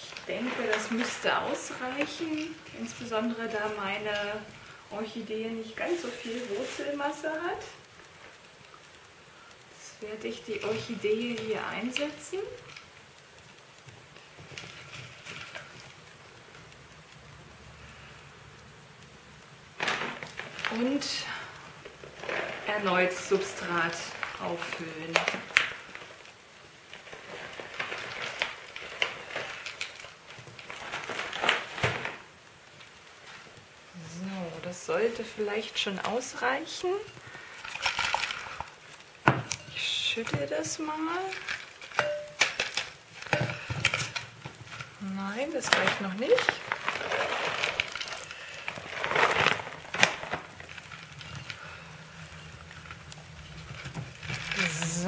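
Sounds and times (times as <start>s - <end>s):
plastic bag crinkling: 0.0s - 18.2s, 18.8s - 55.0s
substrate pouring hiss: 0.0s - 55.0s
small pieces clicking: 7.0s - 33.7s, 34.6s - 55.0s.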